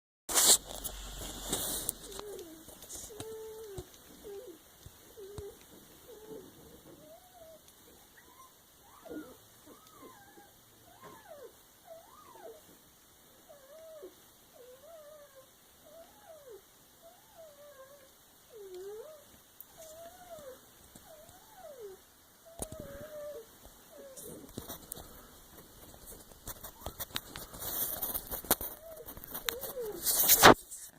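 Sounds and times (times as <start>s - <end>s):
puppies whimpering: 1.2s - 12.7s, 13.5s - 24.5s, 26.7s - 30.6s.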